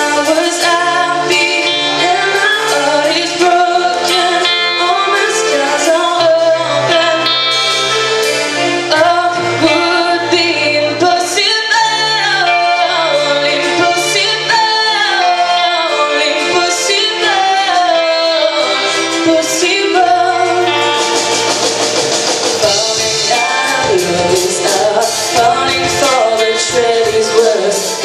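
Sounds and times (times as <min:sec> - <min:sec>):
live pop band playing a ballad: 0:00.0 - 0:28.0.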